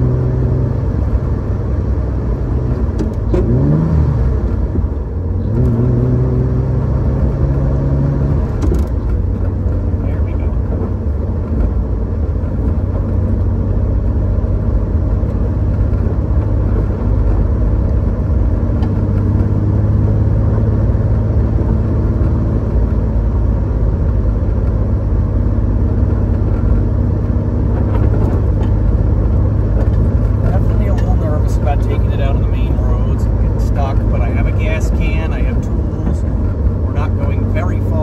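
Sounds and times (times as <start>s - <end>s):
car engine running: 0.0s - 38.0s
road noise: 0.0s - 38.0s.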